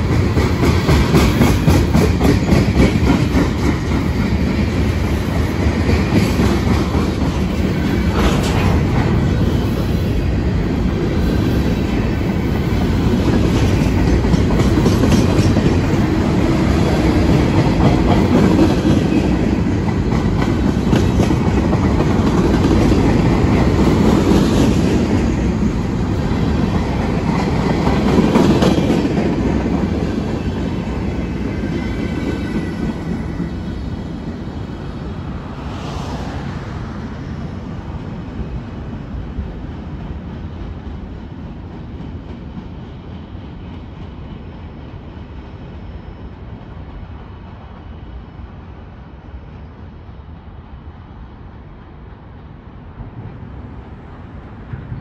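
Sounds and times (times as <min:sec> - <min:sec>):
steel wheels clacking on rails: 0:00.0 - 0:34.4, 0:37.9 - 0:47.7
freight train rumbling past: 0:00.0 - 0:55.0.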